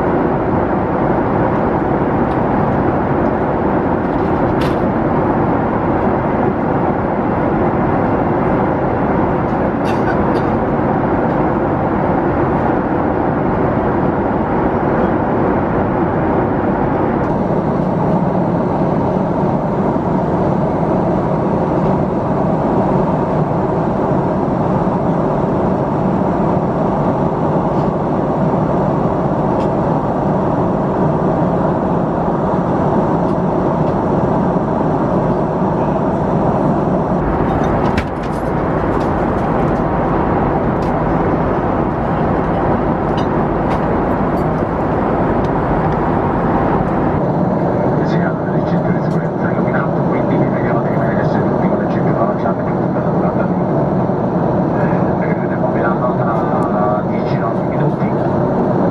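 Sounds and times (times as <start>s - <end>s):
airliner cabin engine rush: 0.0s - 58.9s.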